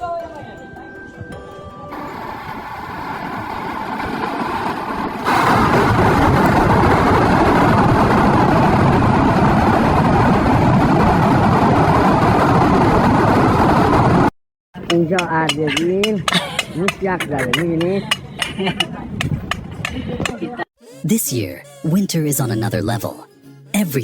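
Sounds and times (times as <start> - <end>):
wind rushing on microphone: 0.0 - 14.3, 15.4 - 20.6.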